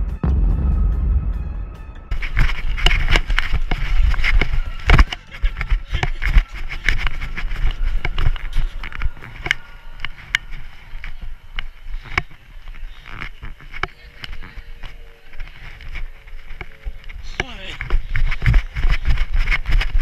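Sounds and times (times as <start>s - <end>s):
microphone rumble: 0.0s - 20.0s
camera jostling thumps and clicks: 2.2s - 20.0s
running footsteps on paving: 2.2s - 20.0s.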